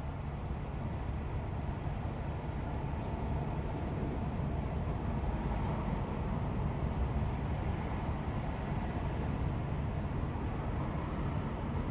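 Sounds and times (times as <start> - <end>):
low roadside rumble: 0.0 - 11.9.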